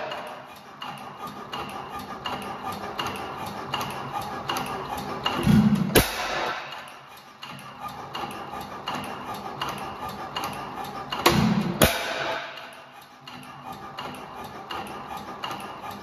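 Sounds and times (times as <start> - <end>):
engine mechanical clicking: 0.0 - 16.0.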